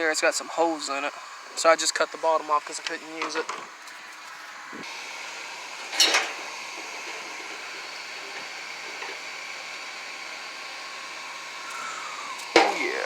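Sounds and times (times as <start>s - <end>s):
forge air blower rushing: 0.0s - 13.0s.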